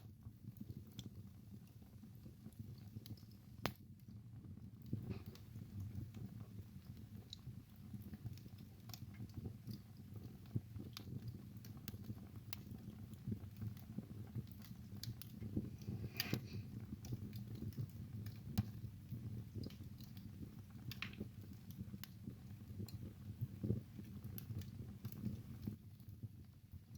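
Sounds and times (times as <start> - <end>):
fire crackling and popping: 0.0 - 26.9
low rumble of flames: 0.0 - 26.9.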